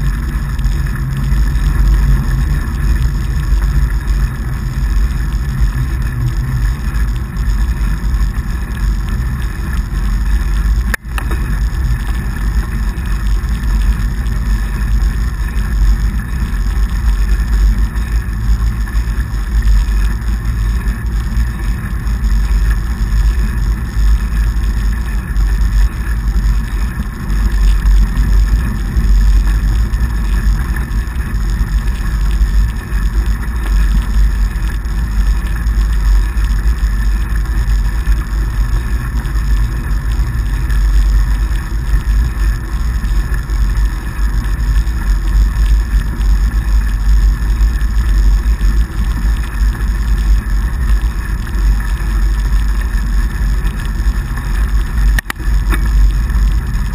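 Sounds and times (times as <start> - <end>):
bike tyres rolling on snow: 0.0 - 56.9
wind rumble on microphone: 0.0 - 56.9.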